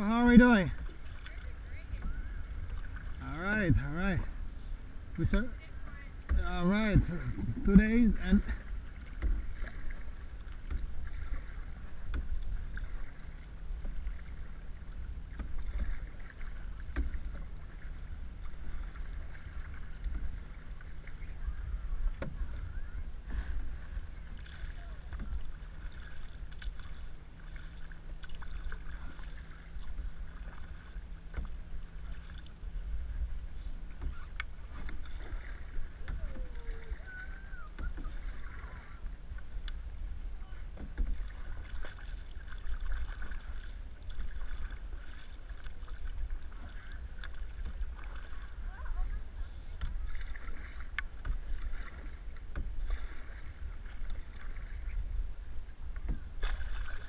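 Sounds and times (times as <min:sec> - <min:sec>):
paddles splashing in water: 0:00.0 - 0:57.0
wind rumble on microphone: 0:00.0 - 0:57.0
paddle knocks: 0:06.2 - 0:57.0.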